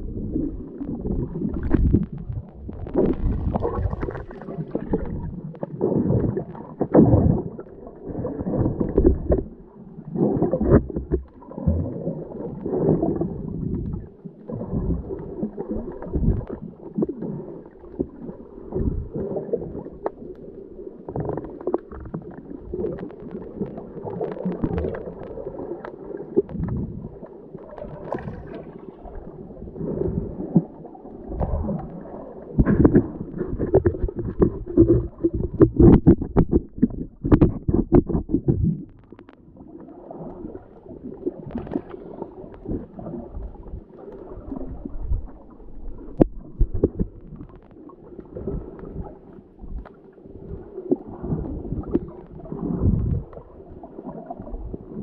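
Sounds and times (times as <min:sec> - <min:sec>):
muffled water sloshing and gurgling: 0:00.0 - 0:55.0.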